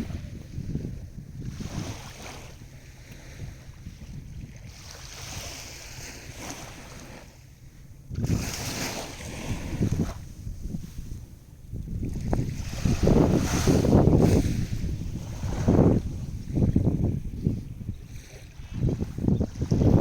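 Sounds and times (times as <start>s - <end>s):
wind buffeting microphone: 0.0s - 7.2s, 7.9s - 20.0s
sea waves washing on shore: 0.0s - 20.0s.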